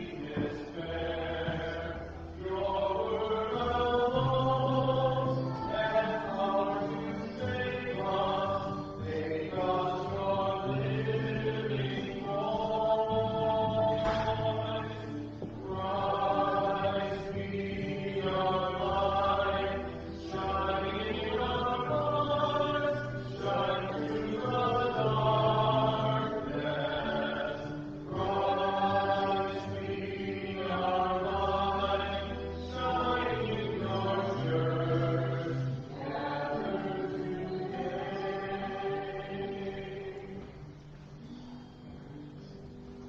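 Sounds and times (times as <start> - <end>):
slow church singing: 0.0 - 43.0.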